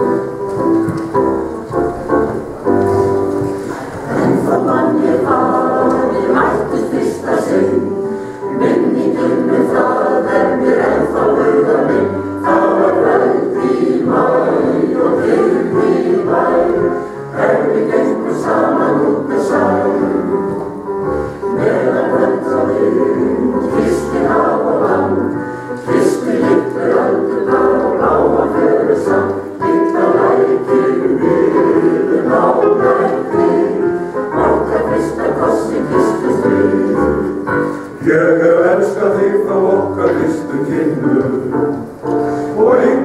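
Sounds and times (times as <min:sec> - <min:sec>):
electric piano: 0:00.0 - 0:43.0
mixed choir singing: 0:03.1 - 0:43.0.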